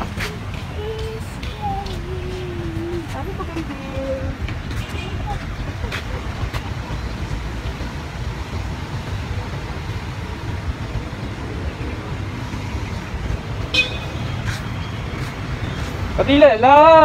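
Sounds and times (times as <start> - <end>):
low rumble of street noise: 0.0 - 17.0.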